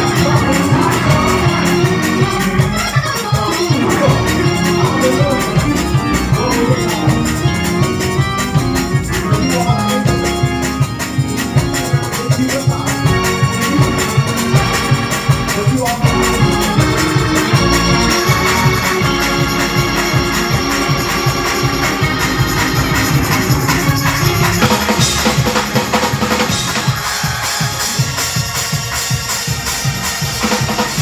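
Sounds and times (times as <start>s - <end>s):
electric organ gospel music: 0.0s - 31.0s.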